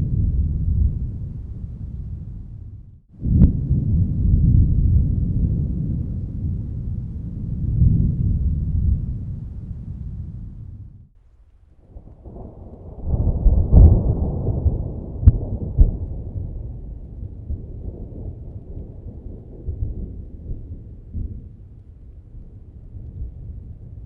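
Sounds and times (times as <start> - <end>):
thunder rumbling and cracking: 0.0 - 24.0.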